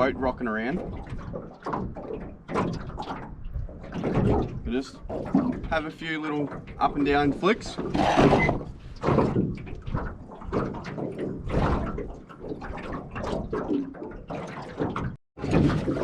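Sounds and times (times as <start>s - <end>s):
boat knocks and thuds: 0.0s - 16.0s
water slapping against hull: 0.0s - 16.0s.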